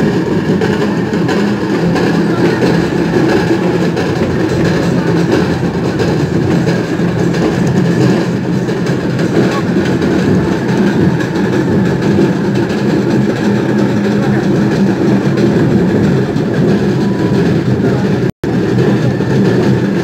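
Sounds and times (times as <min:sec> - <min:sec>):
crowd roar: 0:00.0 - 0:20.0.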